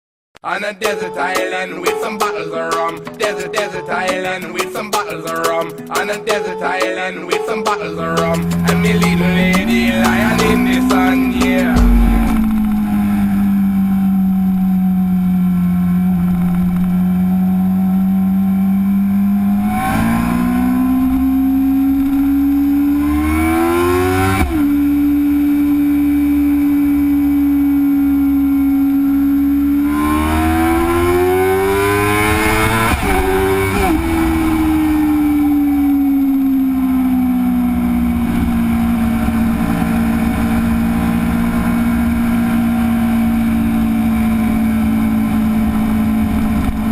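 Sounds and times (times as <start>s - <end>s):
motorcycle engine idling and revving: 8.2s - 46.9s.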